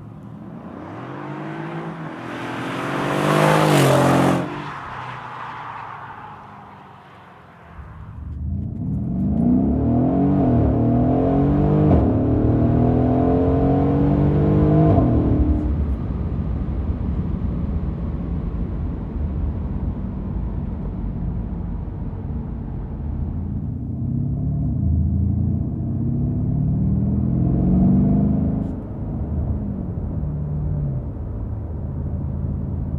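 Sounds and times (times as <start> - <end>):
car engine accelerating through gears: 0.0 - 5.1, 7.8 - 17.4, 20.0 - 32.9.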